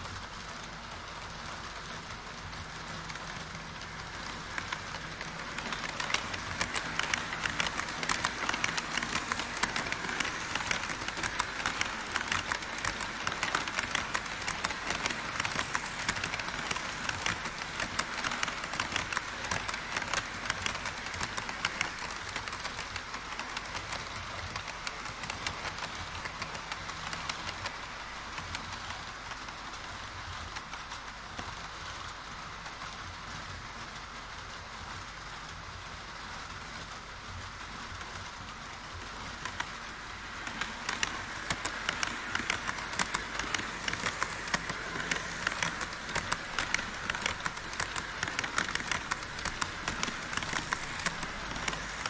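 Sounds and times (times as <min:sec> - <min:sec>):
model train wheels clicking on rails: 0:00.0 - 0:52.0.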